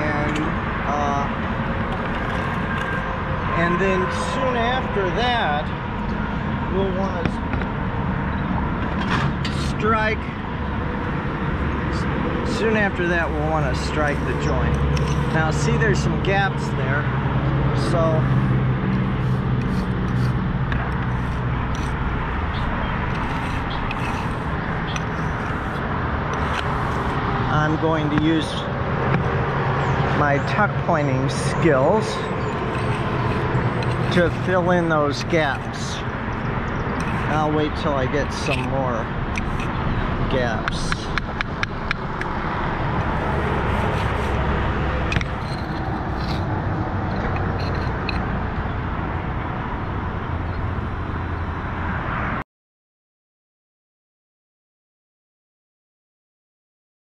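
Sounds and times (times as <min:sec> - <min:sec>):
low engine hum: 0:00.0 - 0:52.3
outdoor background noise: 0:00.0 - 0:52.4.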